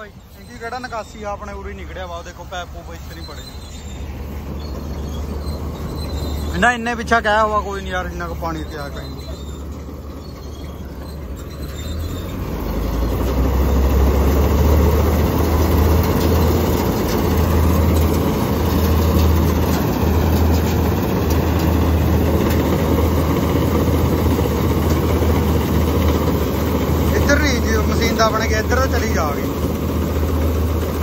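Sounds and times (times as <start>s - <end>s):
diesel engine rumbling: 0.0s - 31.0s.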